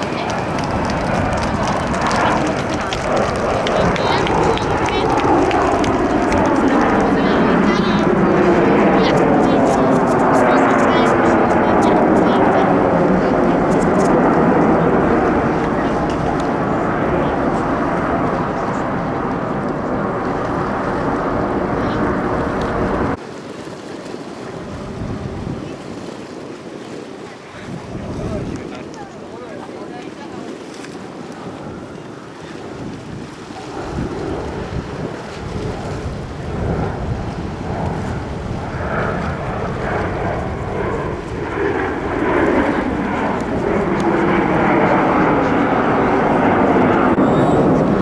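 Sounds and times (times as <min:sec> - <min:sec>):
jet engines roaring overhead: 0:00.0 - 0:48.0
wind and sea hiss: 0:00.0 - 0:48.0.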